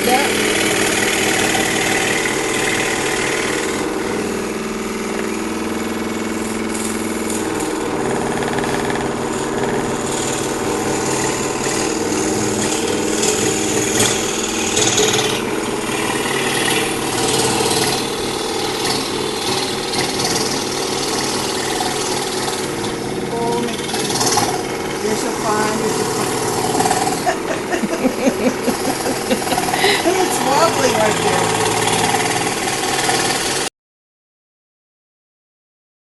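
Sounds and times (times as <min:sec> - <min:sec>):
scroll saw cutting wood: 0:00.0 - 0:33.7.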